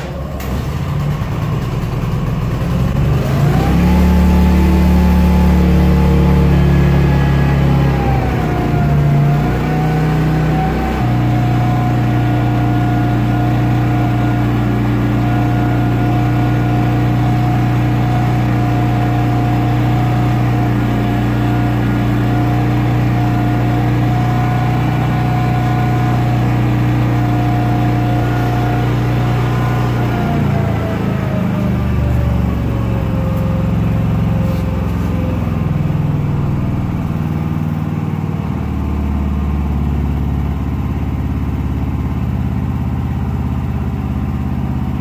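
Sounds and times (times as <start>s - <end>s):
generator engine running: 0.0s - 45.0s.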